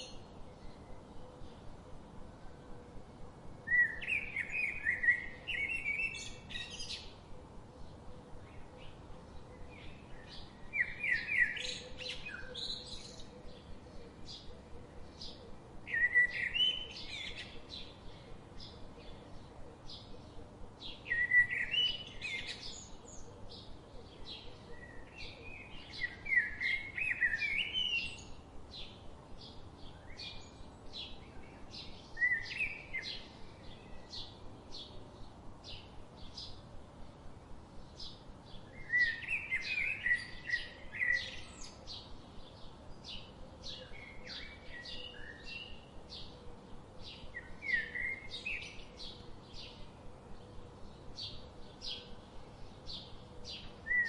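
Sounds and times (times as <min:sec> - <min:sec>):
bird song phrases: 0:00.0 - 0:54.0.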